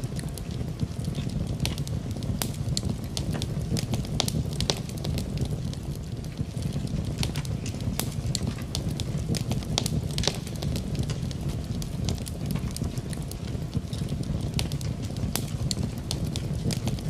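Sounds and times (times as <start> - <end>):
fire popping and snapping: 0.0 - 17.0
rain: 0.0 - 17.0.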